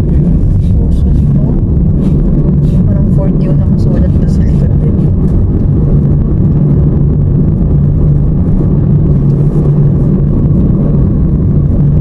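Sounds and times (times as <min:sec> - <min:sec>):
car engine and road rumble: 0:00.0 - 0:12.0
constant low hum: 0:00.0 - 0:12.0.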